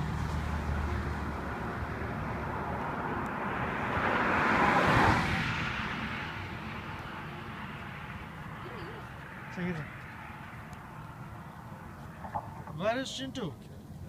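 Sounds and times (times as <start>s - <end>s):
vehicle driving past: 0.0s - 12.9s.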